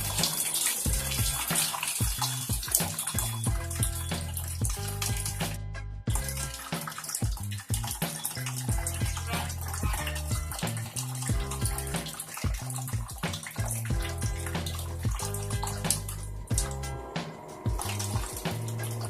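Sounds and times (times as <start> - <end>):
music with a steady beat: 0.0 - 19.0
water running from a tap: 0.0 - 19.0.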